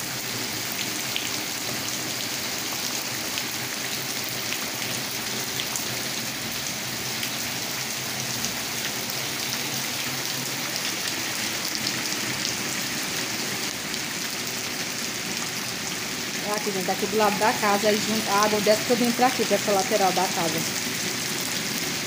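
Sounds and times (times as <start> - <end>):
rain splashing into standing water: 0.0 - 22.0.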